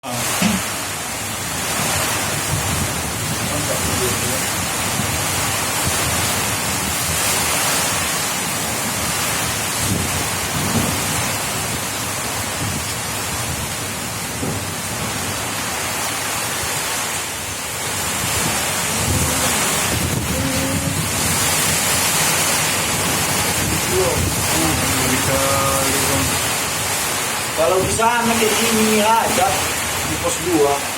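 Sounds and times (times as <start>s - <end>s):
heavy rain pouring: 0.0s - 30.9s
strong wind: 0.0s - 30.9s.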